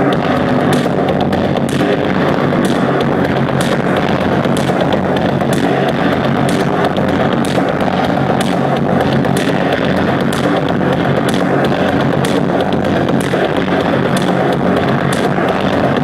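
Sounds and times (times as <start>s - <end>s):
loud electronic music: 0.0s - 16.0s
sharp clicks: 0.7s - 15.8s.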